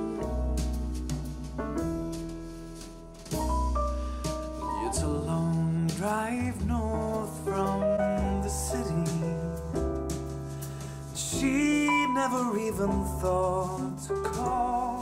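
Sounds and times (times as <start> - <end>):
song with piano and singing: 0.0 - 15.0.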